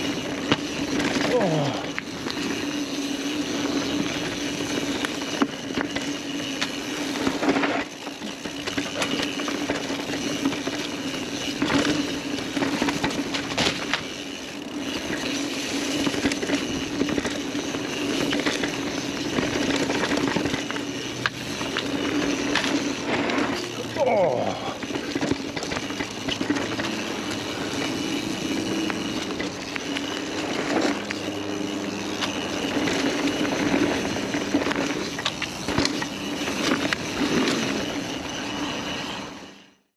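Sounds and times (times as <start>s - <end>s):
bike clattering over roots: 0.0s - 39.4s
bike tyres rumbling on dirt: 0.0s - 39.7s.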